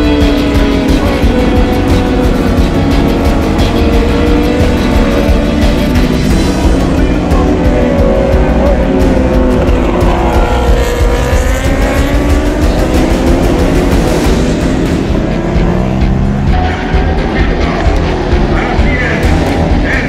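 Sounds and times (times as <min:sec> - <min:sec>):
background music: 0:00.0 - 0:20.0
racing motorcycle engines: 0:00.0 - 0:20.0.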